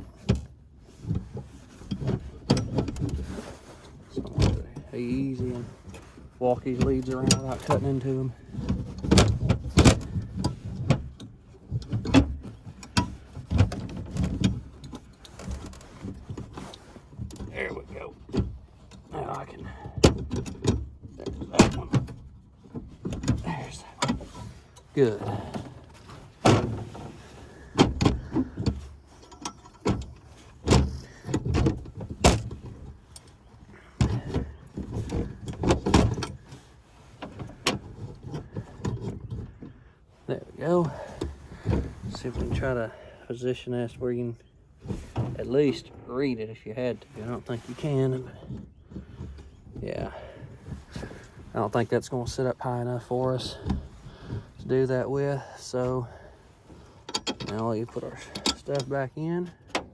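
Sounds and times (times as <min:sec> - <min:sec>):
knocks and rattles of fan motor: 0:00.0 - 0:59.9.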